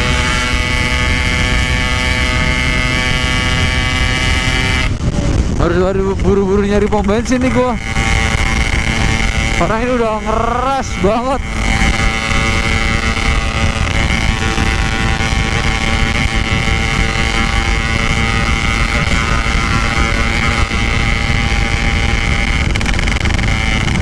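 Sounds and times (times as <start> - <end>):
two-stroke motorcycle engine revving: 0.0 - 24.0
wind rumbling on microphone: 0.0 - 24.0.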